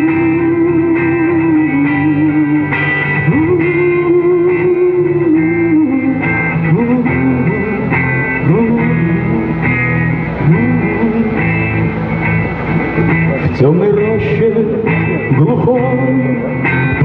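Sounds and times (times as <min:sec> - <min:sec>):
band backing with bass line: 0:00.0 - 0:17.0
electric guitar with bent notes: 0:00.0 - 0:17.0.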